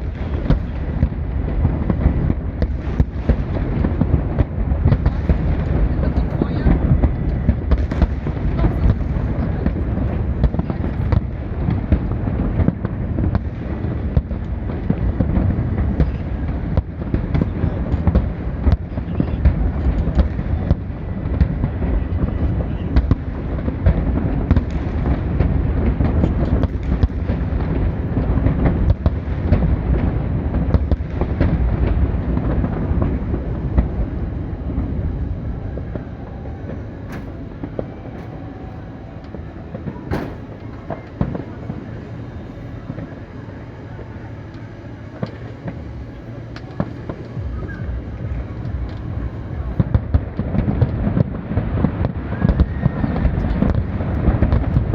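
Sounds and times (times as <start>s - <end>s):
fireworks bangs and crackles: 0.0s - 54.9s
low rumble: 0.0s - 54.9s.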